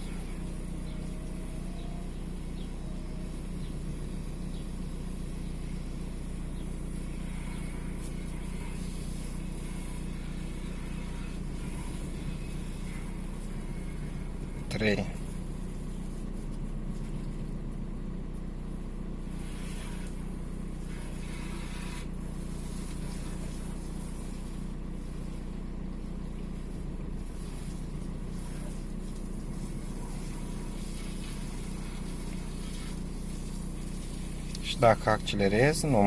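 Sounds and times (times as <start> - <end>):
diesel engine idling roughly: 0.0 - 36.0.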